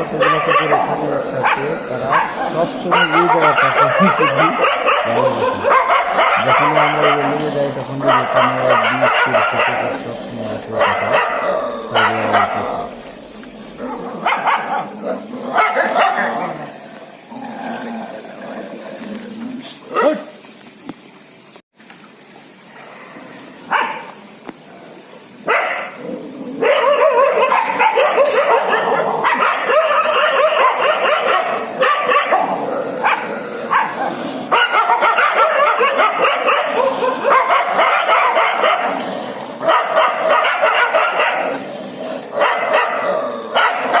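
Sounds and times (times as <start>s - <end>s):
dogs barking and yelping: 0.0s - 17.4s, 23.6s - 24.2s, 25.4s - 44.0s.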